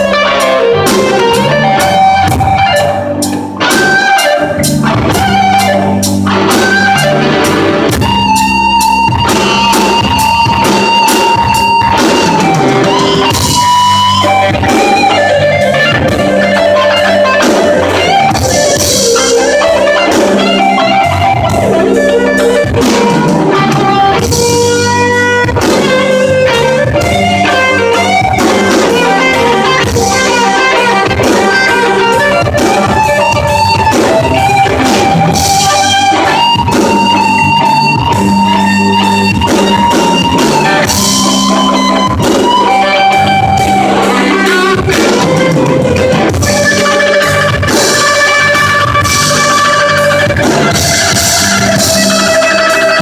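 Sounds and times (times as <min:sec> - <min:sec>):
bass keyboard and drums: 0:00.0 - 0:53.0
lead electric guitar bending notes: 0:00.0 - 0:53.0.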